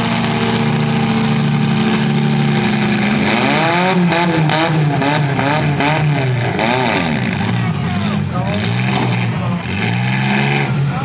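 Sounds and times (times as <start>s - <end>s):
car engines running loudly: 0.0s - 11.0s
engine revving: 0.0s - 11.0s.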